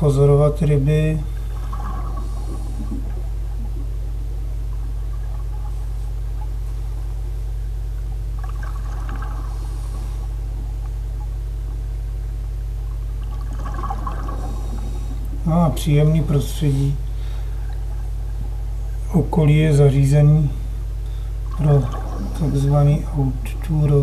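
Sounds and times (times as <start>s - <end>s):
faint watery crackles: 0.0s - 24.0s
underwater rumbling hum: 0.0s - 24.0s.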